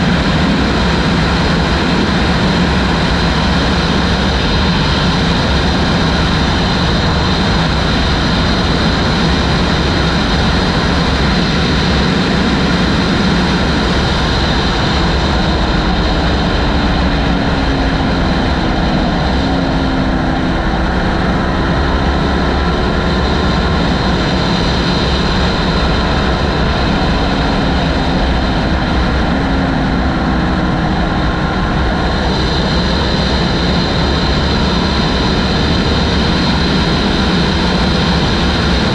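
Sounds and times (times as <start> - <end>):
wind blasting across microphone: 0.0 - 38.9.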